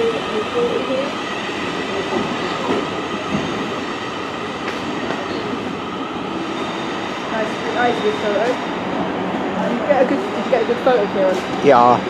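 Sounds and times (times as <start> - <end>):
electric train whine: 0.0 - 12.0.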